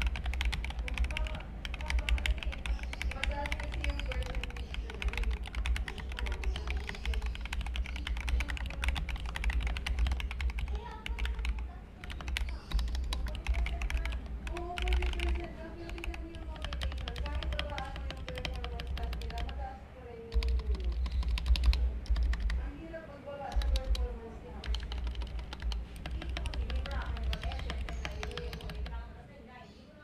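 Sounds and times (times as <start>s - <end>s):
mechanical keyboard typing: 0.0s - 19.7s, 20.3s - 29.0s.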